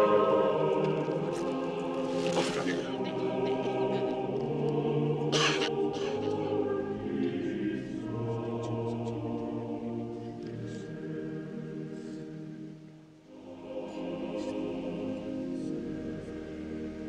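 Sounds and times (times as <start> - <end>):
choir singing chant: 0.0 - 17.0.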